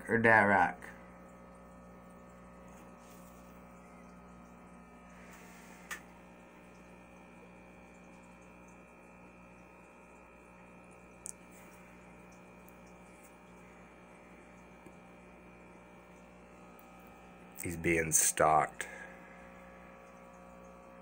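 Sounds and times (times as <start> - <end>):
aquarium equipment humming: 0.0 - 21.0.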